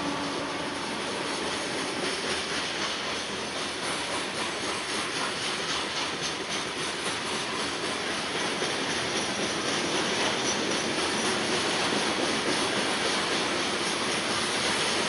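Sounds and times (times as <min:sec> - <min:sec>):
steel wheels on rail: 0:00.0 - 0:15.0.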